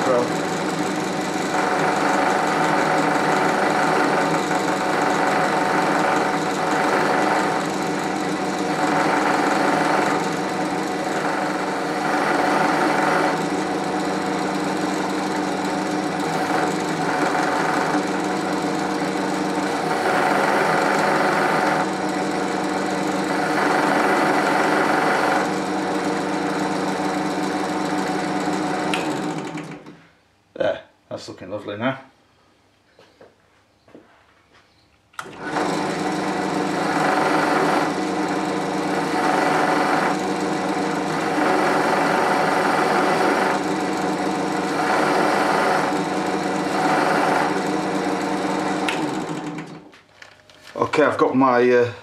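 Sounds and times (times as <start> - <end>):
pillar drill motor hum: 0.0 - 30.0, 35.2 - 51.1.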